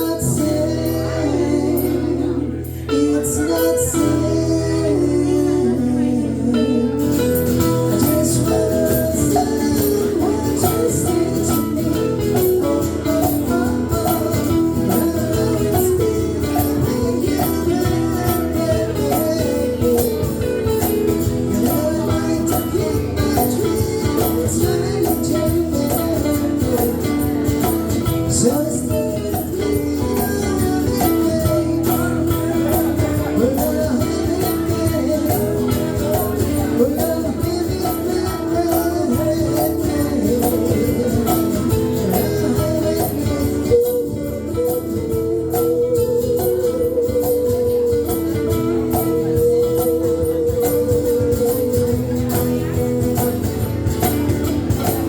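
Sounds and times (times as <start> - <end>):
guitars: 0.0 - 55.0
person singing: 0.0 - 55.0.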